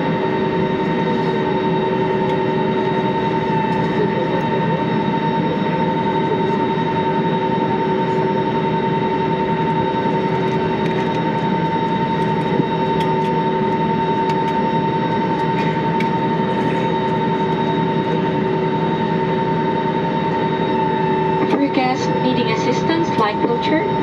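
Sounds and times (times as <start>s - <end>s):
aircraft cabin air rush: 0.0s - 24.0s
constant high whine: 0.0s - 24.0s.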